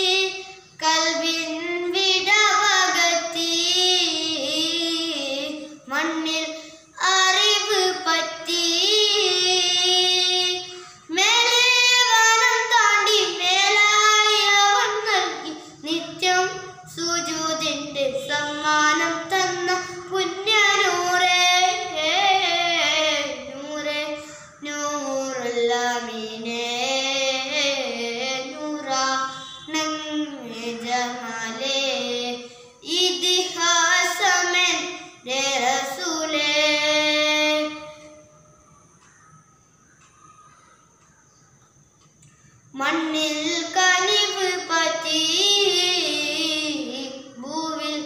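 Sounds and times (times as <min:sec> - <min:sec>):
boy singing devotional song: 0:00.0 - 0:48.0.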